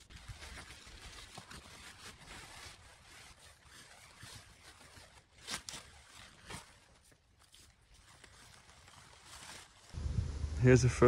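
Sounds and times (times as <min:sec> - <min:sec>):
tarp rustling: 0:00.0 - 0:10.1.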